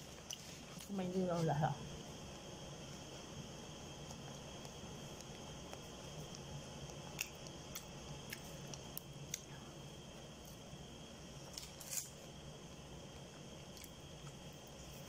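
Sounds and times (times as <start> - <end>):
faint steady hiss: 0.0 - 15.0
eating chicken by hand: 2.0 - 15.0.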